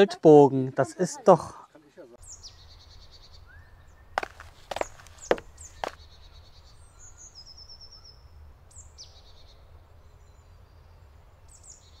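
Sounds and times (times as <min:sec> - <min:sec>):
songbird trill: 0:02.2 - 0:12.0.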